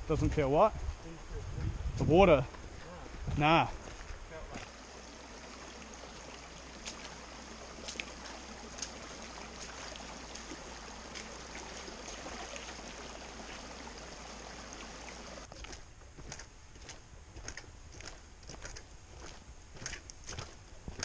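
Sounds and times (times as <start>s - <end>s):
stream rushing and trickling: 2.5s - 21.0s.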